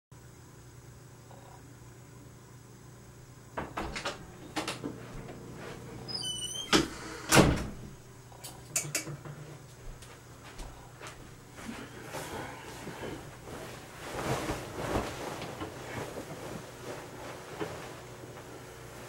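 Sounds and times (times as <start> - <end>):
steady low hum: 0.2 - 19.0.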